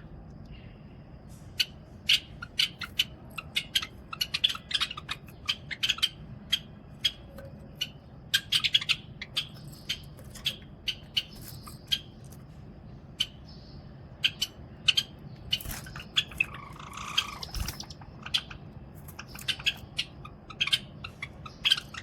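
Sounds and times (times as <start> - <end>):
sparrows chip calls: 0.0 - 22.0.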